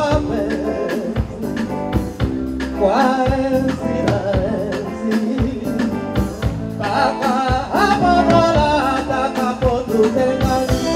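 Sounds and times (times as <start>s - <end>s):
instrumental backing: 0.0s - 10.9s
person singing: 0.0s - 10.9s
steady drum beat: 0.0s - 10.9s.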